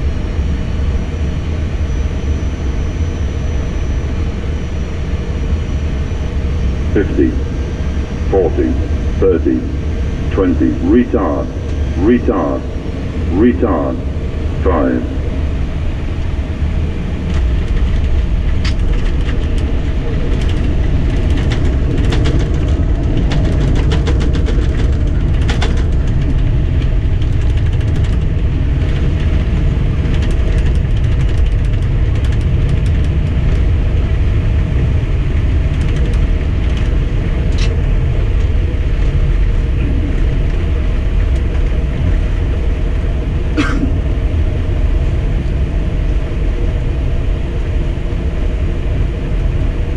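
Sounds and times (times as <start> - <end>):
wheels and engines rumbling: 4.1 - 49.9.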